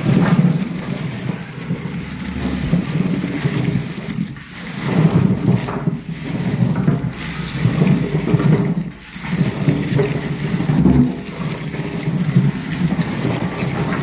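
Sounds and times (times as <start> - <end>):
bulbs rustling and knocking: 0.0 - 14.0.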